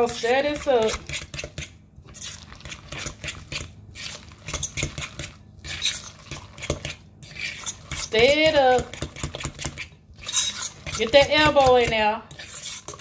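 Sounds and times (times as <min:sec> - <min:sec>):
metal utensil scraping glass bowl: 0:00.0 - 0:13.0.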